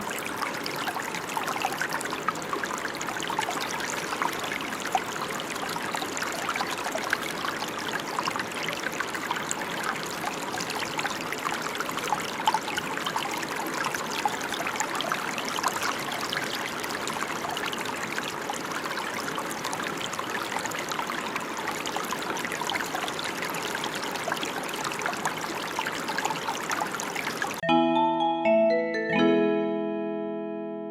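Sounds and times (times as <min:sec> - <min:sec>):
brook gurgling: 0:00.0 - 0:27.6.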